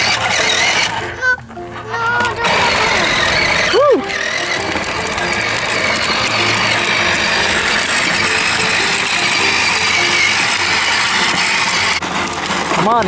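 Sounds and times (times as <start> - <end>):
toy electric motor and gearbox running: 0.0 - 13.0.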